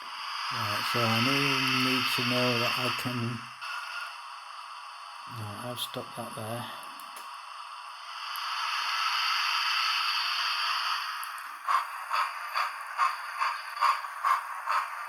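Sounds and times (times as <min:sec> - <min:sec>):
model locomotive chuffing: 0:00.0 - 0:06.6, 0:08.1 - 0:15.0
model locomotive steam hiss: 0:00.0 - 0:15.0.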